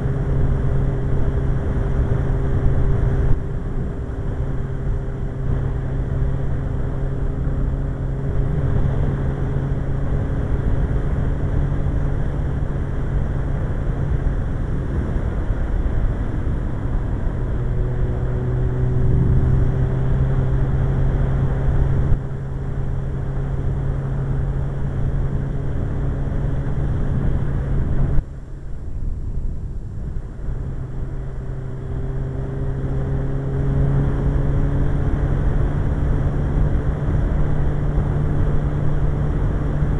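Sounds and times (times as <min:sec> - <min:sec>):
motorcycle engine cruising: 0:00.0 - 0:28.4, 0:30.1 - 0:39.9
wind rush: 0:00.0 - 0:39.9.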